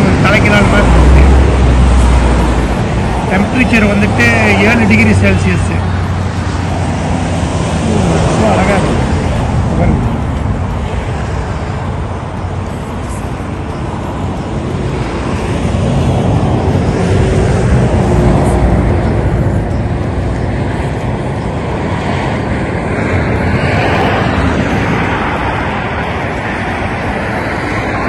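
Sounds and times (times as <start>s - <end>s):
cars passing: 0.0s - 28.0s
road traffic: 0.0s - 28.0s.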